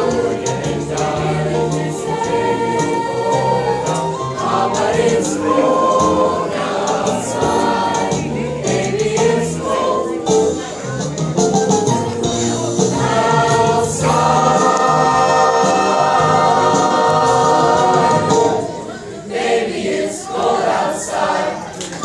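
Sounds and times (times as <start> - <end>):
choir singing: 0.0 - 10.7, 12.6 - 21.8.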